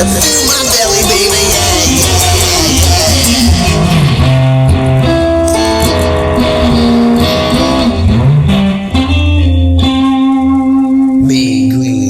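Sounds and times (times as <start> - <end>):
bass line: 0.0 - 12.0
electric guitar playing: 0.0 - 12.0.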